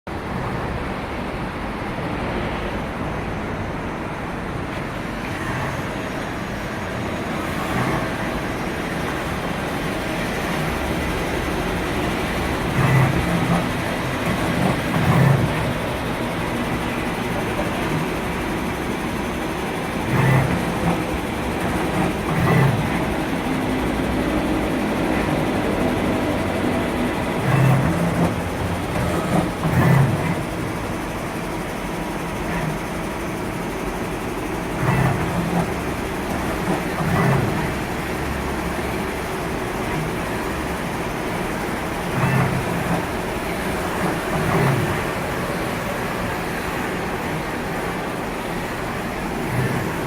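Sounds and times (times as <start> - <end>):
lathe mechanical hum: 0.1 - 50.0.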